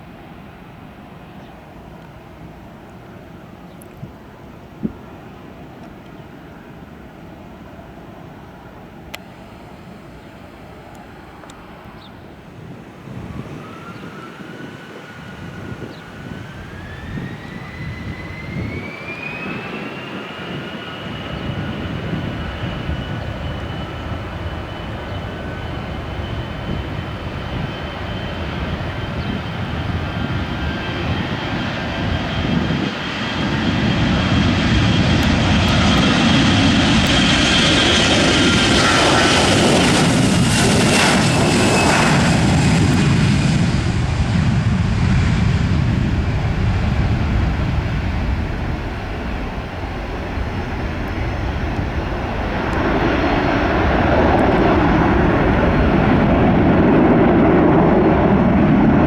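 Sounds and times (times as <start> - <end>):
jet engines spooling up: 9.2 - 59.0.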